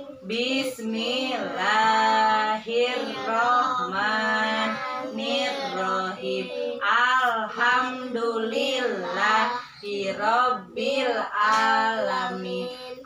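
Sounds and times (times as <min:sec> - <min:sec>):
person chanting a recitation: 0:00.0 - 0:13.0.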